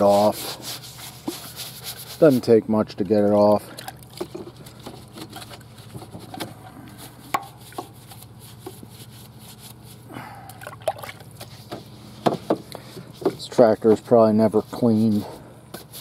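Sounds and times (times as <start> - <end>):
brush scrubbing: 0.0 - 10.1, 10.8 - 16.0.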